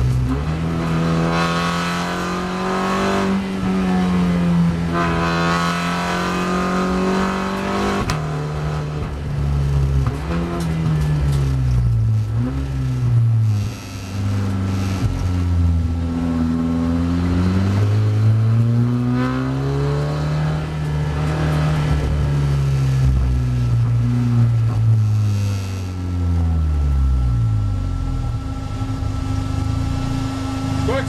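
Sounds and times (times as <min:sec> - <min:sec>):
race car engine revving through gears: 0:00.0 - 0:31.0.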